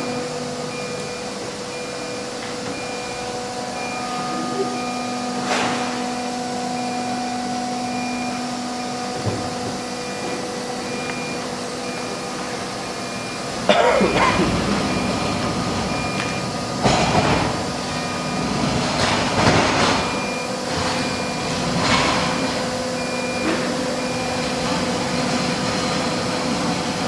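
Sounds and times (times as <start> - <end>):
cnc router humming: 0.0 - 27.0.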